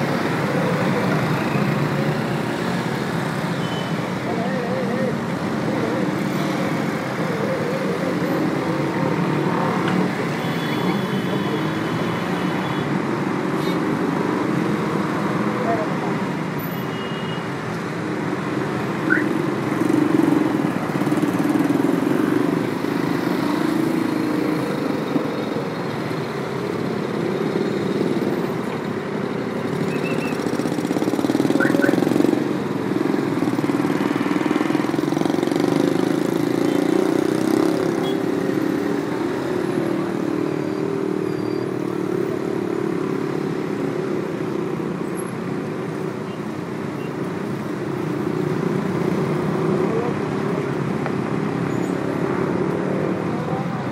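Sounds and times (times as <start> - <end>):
dense road traffic: 0.0 - 53.9.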